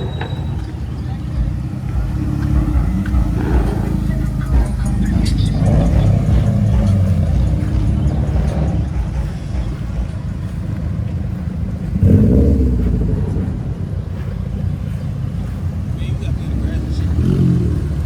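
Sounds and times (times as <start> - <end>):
car engine rumbling: 0.0 - 18.0
short engine rev: 0.0 - 18.0.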